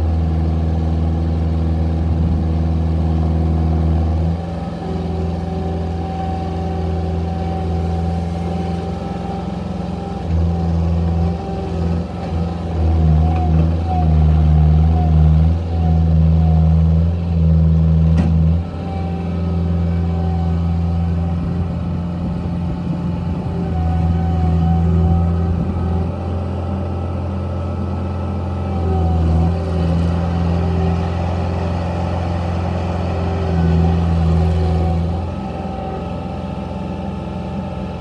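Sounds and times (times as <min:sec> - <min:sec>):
loader engine working: 0:00.0 - 0:38.0.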